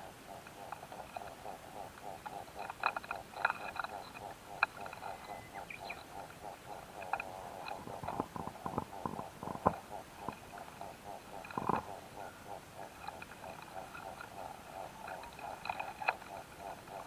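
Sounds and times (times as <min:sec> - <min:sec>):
insects fast even pulsing: 0:00.0 - 0:17.0.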